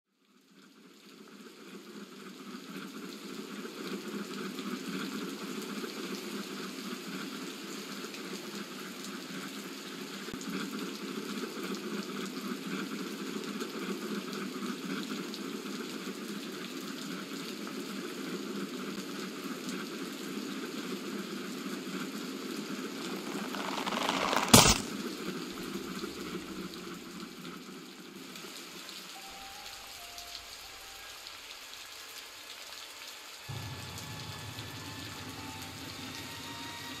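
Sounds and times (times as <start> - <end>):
steady rain falling: 0.2 - 37.0.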